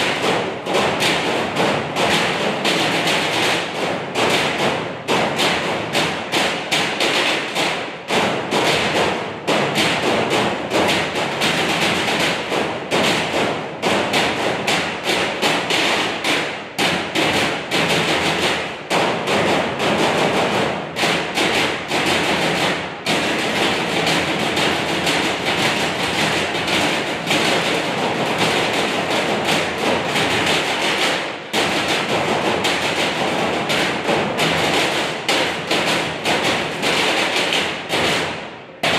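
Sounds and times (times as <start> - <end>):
drumsticks beating metal trash cans: 0.0 - 38.9.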